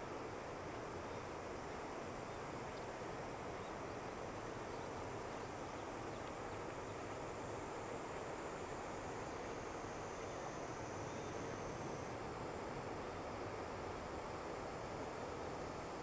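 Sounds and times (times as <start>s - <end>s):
distant rocket engine roar: 0.0s - 16.0s.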